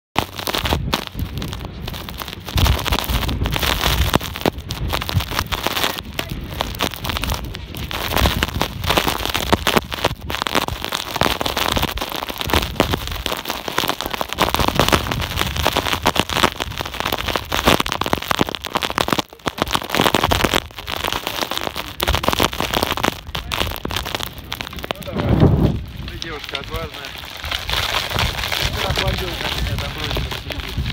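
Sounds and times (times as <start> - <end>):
snow hissing: 0.3 - 30.9
wind buffeting microphone: 0.3 - 30.9.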